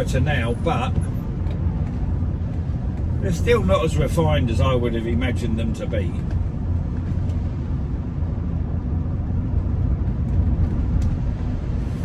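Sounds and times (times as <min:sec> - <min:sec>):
car road noise on wet roads: 0:00.0 - 0:12.0.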